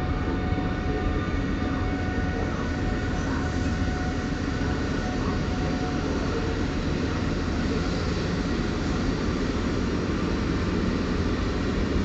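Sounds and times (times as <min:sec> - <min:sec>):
rumble of rail traffic: 0:00.0 - 0:12.0.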